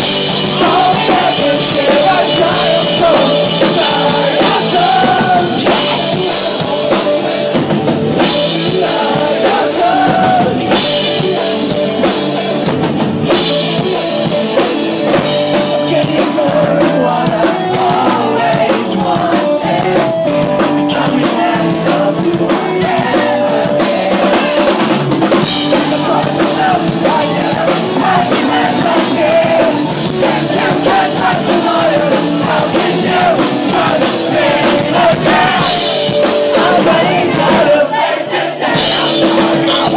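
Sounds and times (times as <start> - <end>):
pop-punk band playing live: 0.0 - 39.9.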